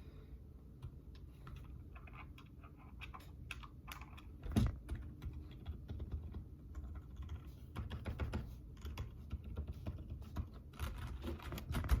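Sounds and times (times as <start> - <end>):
mechanical keyboard typing: 1.4 - 12.0.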